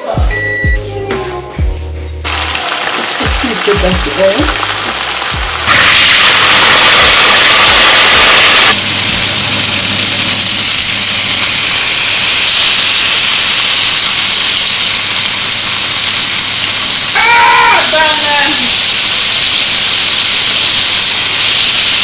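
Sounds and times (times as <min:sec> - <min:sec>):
food sizzling in hot oil: 0:02.2 - 0:22.0.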